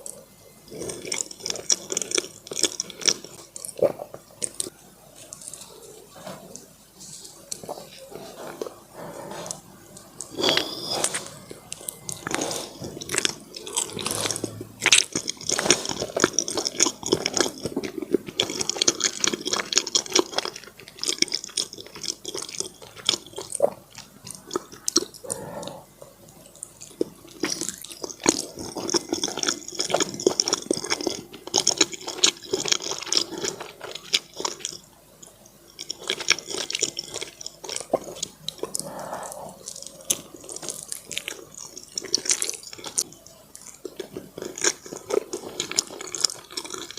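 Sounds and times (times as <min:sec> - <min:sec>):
person chewing wetly: 0:00.0 - 0:46.9.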